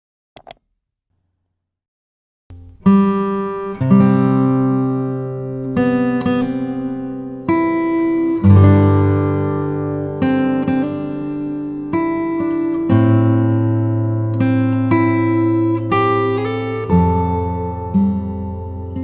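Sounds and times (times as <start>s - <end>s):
acoustic guitar chords: 2.5s - 19.0s.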